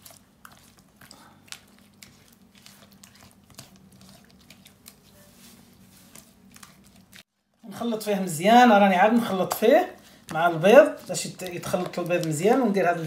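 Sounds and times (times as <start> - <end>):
fork beating batter: 0.0 - 7.2, 8.7 - 12.8.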